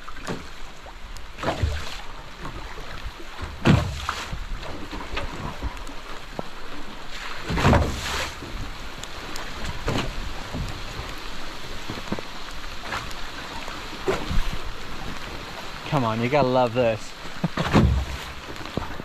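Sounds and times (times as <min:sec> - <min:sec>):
rain and water hissing: 0:00.0 - 0:19.0
water rushing: 0:00.0 - 0:19.0.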